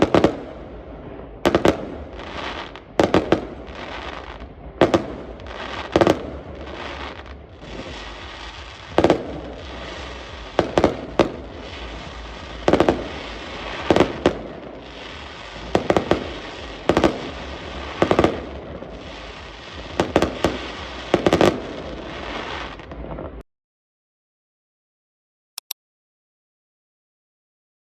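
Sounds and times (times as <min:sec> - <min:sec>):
fireworks banging: 0:00.0 - 0:23.4
steady noisy hiss: 0:00.0 - 0:23.4.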